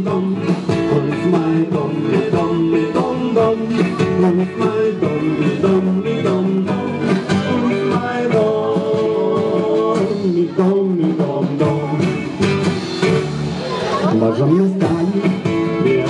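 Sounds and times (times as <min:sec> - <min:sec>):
live band playing country music: 0:00.0 - 0:16.0.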